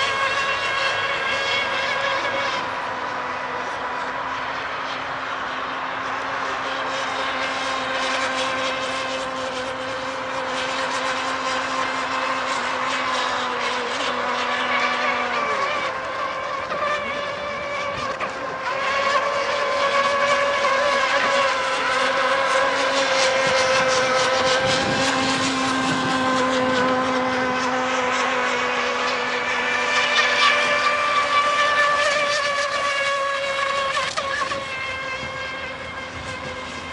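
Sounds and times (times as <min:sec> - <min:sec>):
model speedboat motor buzzing: 0:00.0 - 0:36.9.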